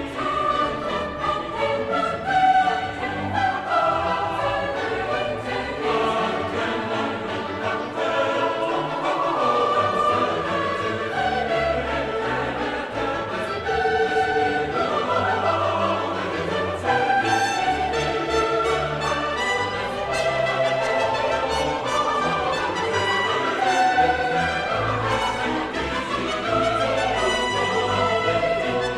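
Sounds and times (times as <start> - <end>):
choral and orchestral music: 0.0 - 28.9.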